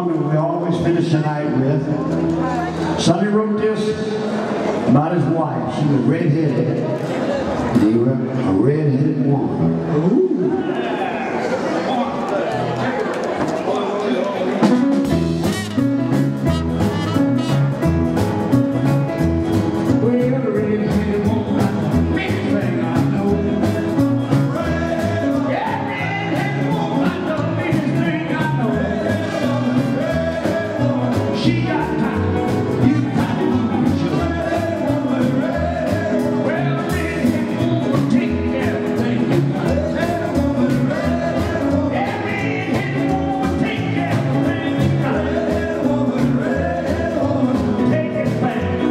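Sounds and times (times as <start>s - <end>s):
man singing: 0.0s - 6.6s, 14.6s - 48.9s
live rockabilly band playing: 0.0s - 48.9s.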